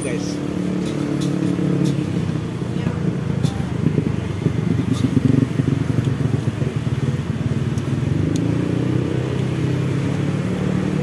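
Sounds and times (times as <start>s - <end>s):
motorcycle and car engines: 0.0s - 11.0s.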